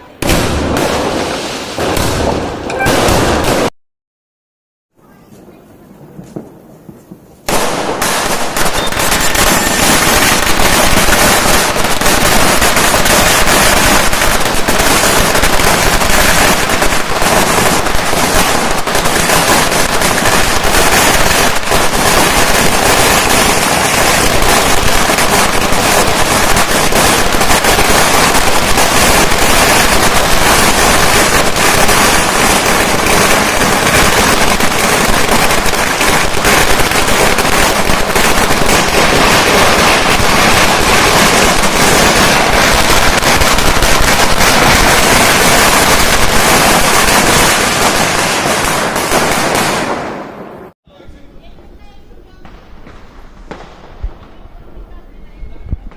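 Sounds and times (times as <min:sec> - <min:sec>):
firecrackers crackling: 0:00.0 - 0:03.7, 0:05.0 - 0:55.9.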